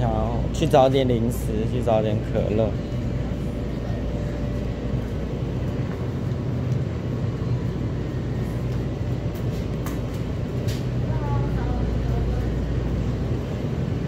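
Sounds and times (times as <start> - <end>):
low hum: 0.0 - 14.0
supermarket background noise: 0.0 - 14.0.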